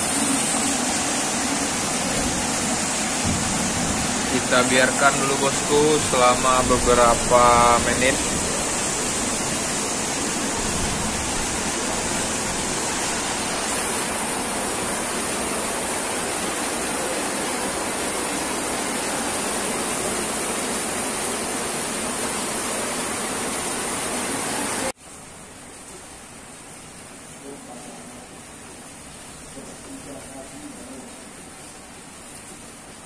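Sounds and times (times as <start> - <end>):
steady rushing hiss: 0.0 - 33.0.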